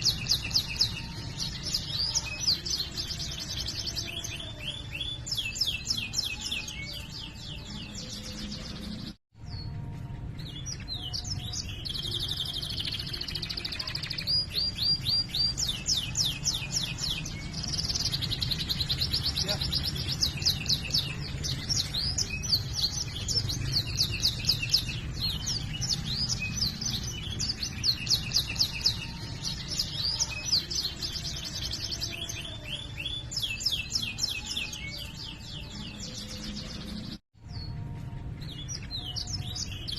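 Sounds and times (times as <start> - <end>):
canary trilling and chirping: 0.0 - 9.7, 10.5 - 39.9.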